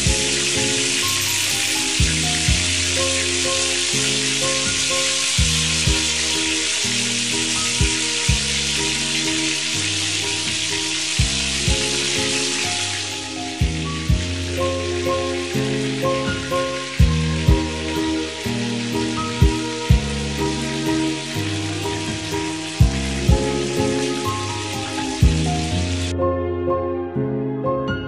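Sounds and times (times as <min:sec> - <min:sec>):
background music with beat and bass: 0:00.0 - 0:26.1
doughnuts deep-frying in oil: 0:00.0 - 0:26.1.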